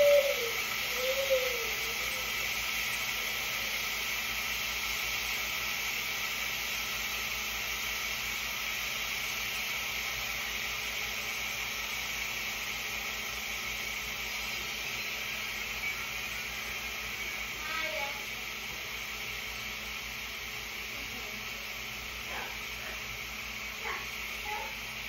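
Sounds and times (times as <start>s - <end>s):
range hood fan hissing: 0.0s - 25.0s.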